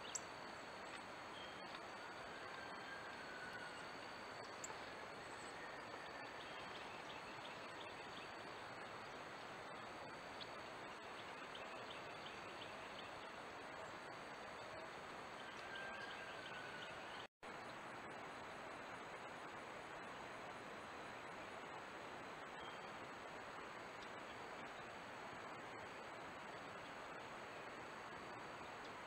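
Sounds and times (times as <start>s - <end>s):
microphone hiss: 0.0s - 29.0s.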